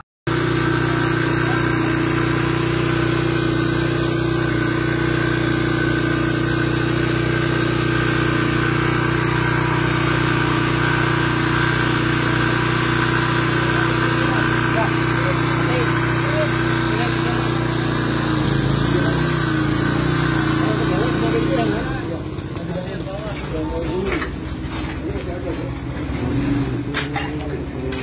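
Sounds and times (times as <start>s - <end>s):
engine running steadily: 0.3s - 28.0s.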